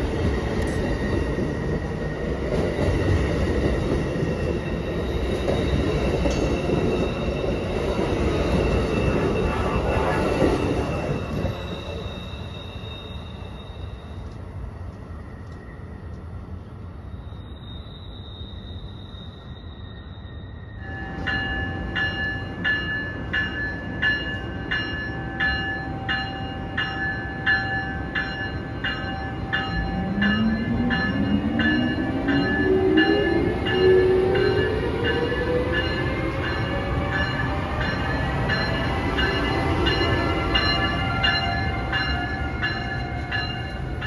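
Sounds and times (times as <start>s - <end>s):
locomotive bell ringing: 3.0s - 14.4s, 17.5s - 44.0s.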